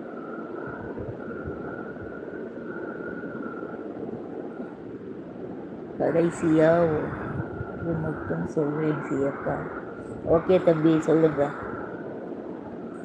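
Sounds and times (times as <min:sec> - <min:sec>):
background hiss and rumble: 0:00.0 - 0:13.0
faint high whine: 0:00.0 - 0:13.0.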